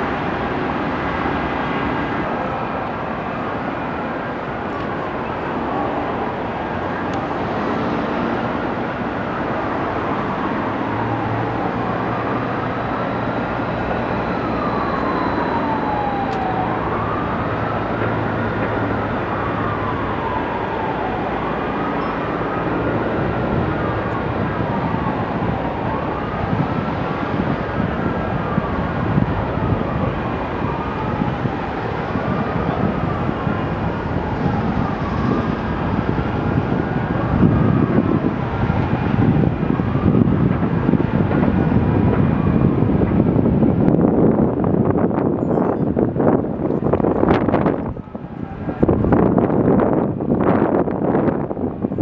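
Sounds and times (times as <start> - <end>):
emergency siren wailing: 0.0 - 52.0
second siren: 0.0 - 52.0.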